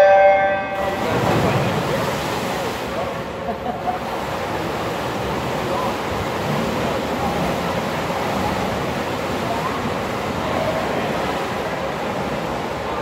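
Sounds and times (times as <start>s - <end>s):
crowd chatter: 0.0s - 13.0s
water splashing: 0.3s - 13.0s.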